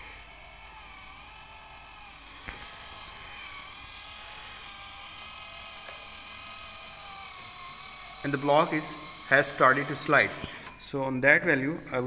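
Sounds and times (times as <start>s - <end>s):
small electric motor whining: 0.0s - 12.0s.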